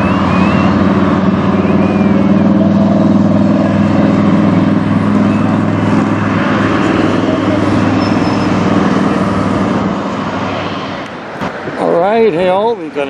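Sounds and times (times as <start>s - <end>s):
bus and car passing: 0.0s - 13.0s
rush of traffic noise: 0.0s - 13.0s.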